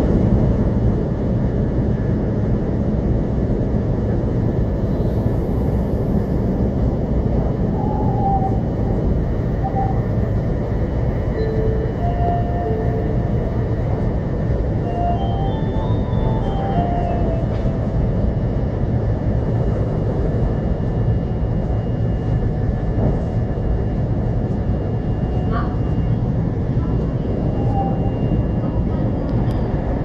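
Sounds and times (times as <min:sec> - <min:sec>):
train cabin low rumble: 0:00.0 - 0:30.0.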